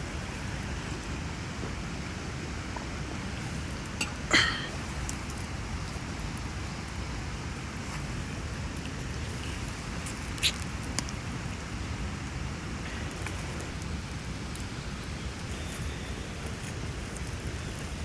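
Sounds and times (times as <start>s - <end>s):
wood campfire crackling: 0.0s - 18.0s.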